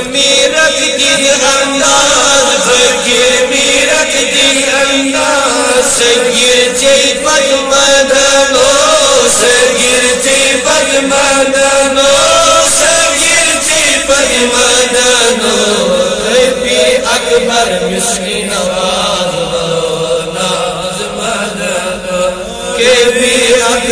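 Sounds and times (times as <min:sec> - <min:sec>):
men chanting together: 0:00.0 - 0:23.9.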